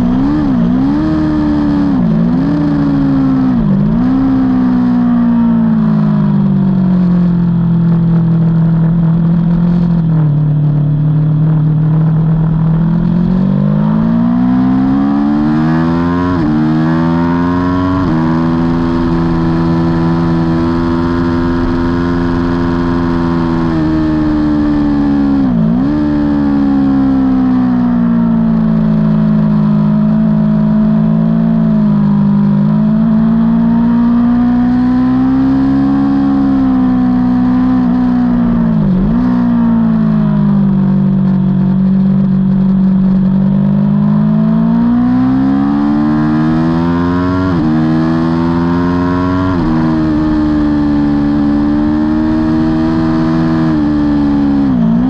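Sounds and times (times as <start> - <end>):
motorcycle engine at racing speed: 0.0 - 55.0.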